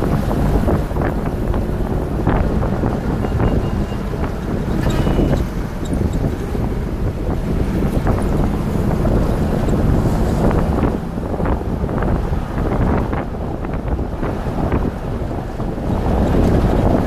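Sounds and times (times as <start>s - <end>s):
car engine and road noise: 0.0s - 17.0s
wind buffeting microphone: 0.0s - 17.0s.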